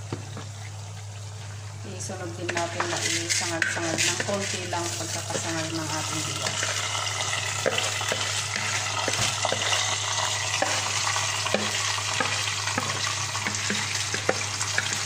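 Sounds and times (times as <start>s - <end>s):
rice sizzling in hot oil: 1.4s - 15.0s.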